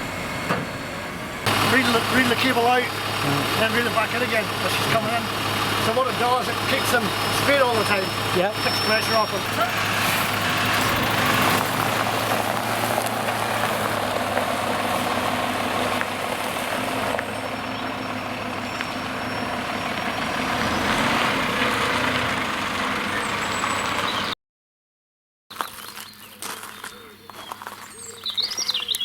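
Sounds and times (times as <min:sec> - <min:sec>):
diesel truck engine running: 0:00.0 - 0:24.4
loader crane working: 0:00.0 - 0:24.4.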